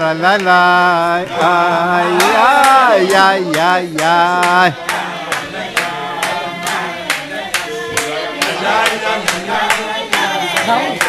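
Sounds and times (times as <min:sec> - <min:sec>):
men singing wordless melody: 0:00.0 - 0:11.0
hand-clapping: 0:00.3 - 0:00.6, 0:02.1 - 0:11.0.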